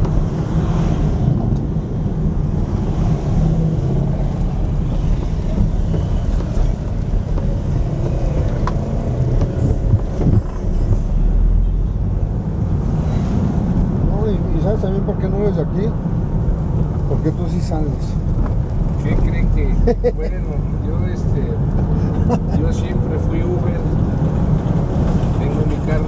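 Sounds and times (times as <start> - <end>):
car engine and road rumble inside: 0.0 - 26.0.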